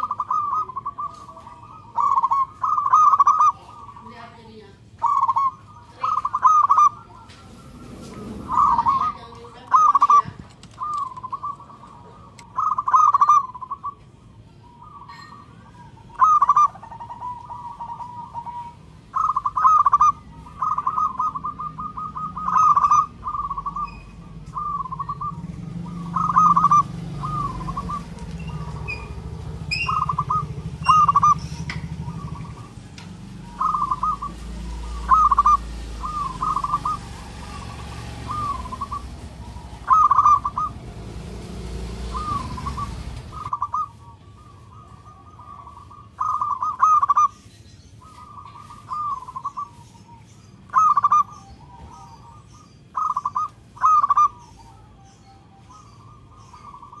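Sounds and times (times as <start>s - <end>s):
low background rumble: 0.0s - 55.1s
dove cooing: 0.0s - 57.0s.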